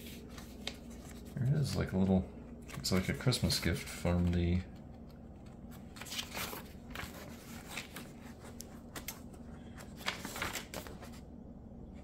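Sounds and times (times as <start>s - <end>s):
paper pages rustling: 0.0s - 11.3s.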